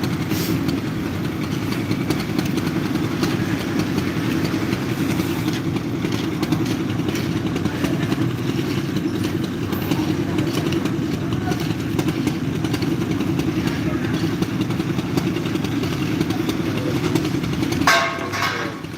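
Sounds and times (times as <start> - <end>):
machinery engine humming: 0.0 - 18.9.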